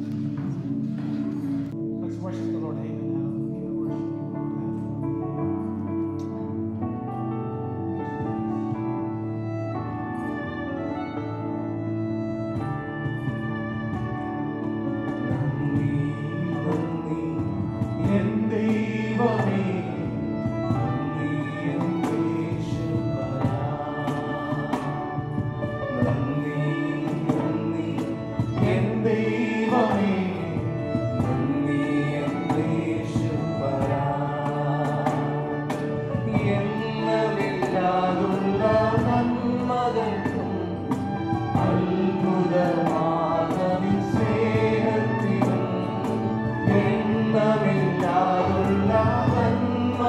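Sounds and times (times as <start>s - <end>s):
music with singing voices: 0.0s - 50.0s.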